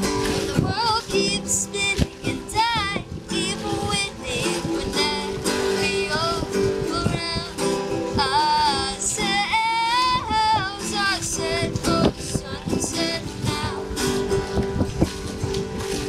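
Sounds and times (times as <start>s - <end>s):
strummed acoustic guitar: 0.0s - 16.0s
boy singing: 0.4s - 14.4s.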